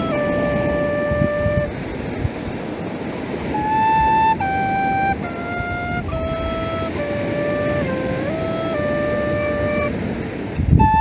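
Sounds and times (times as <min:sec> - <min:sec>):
flute-like wind instrument: 0:00.0 - 0:11.0.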